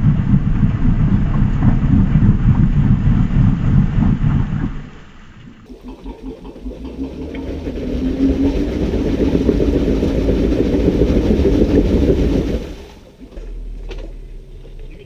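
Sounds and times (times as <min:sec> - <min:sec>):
engine working hard under load: 0:00.0 - 0:15.0.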